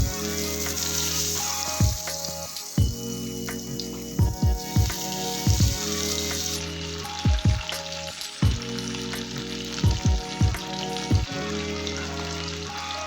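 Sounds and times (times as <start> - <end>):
background music with deep bass: 0.0 - 13.0
food sizzling in hot oil: 0.0 - 13.0.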